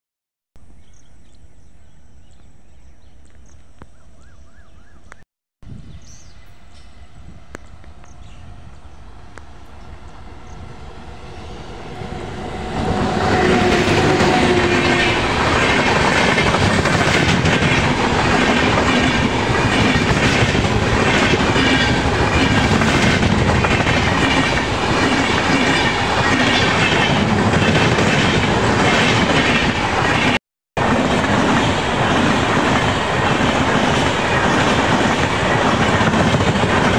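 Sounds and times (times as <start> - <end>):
train running past: 6.4 - 36.9.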